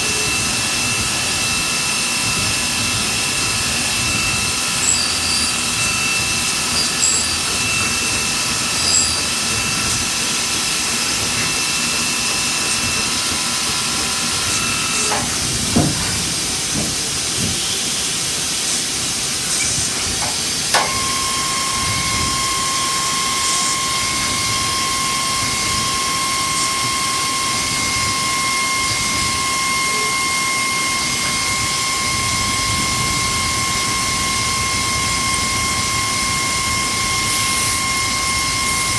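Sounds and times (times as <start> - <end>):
lower machine whine: 0.0 - 38.9
machine whine: 0.0 - 38.9.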